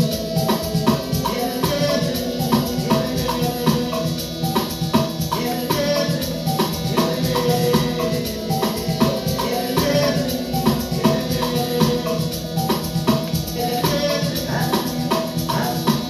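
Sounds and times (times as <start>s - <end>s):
amapiano dance music: 0.0s - 16.0s
fast drum and shaker beat: 0.0s - 16.0s
steady bass line: 0.0s - 16.0s.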